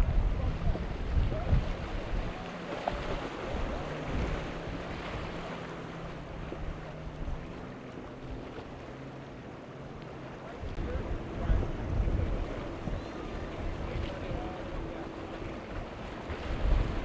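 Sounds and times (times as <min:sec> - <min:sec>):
wind on microphone: 0:00.0 - 0:08.6, 0:10.6 - 0:17.0
jet ski engine running: 0:00.0 - 0:17.0
surf washing: 0:00.0 - 0:17.0.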